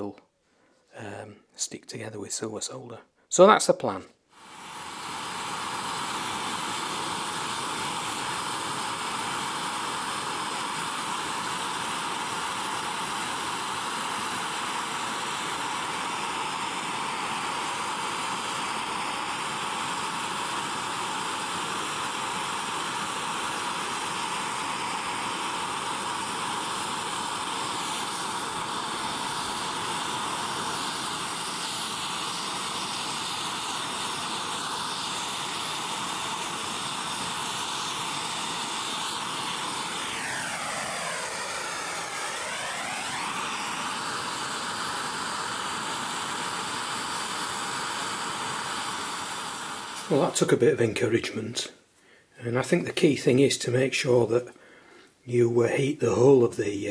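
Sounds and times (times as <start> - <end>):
gas torch flame hissing: 4.3 - 51.7.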